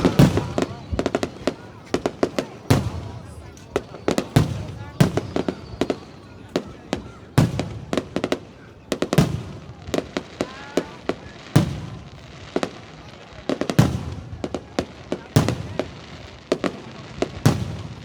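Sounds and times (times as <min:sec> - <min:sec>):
fireworks bangs: 0:00.0 - 0:18.0
heavy fireworks booms echoing: 0:00.0 - 0:18.0.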